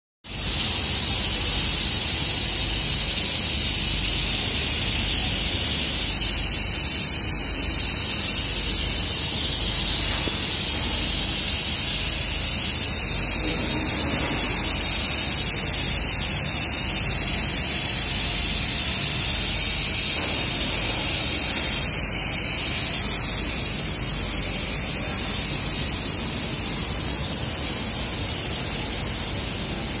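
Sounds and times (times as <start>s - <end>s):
laser welding machine hiss: 0.3s - 30.0s.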